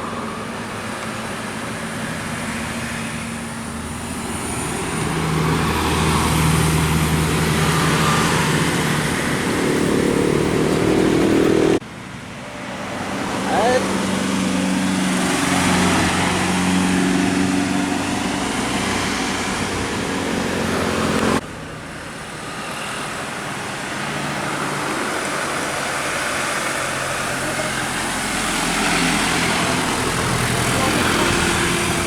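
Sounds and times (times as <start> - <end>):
vehicle engine running: 0.0 - 11.8, 14.6 - 32.0
road traffic: 0.0 - 32.0.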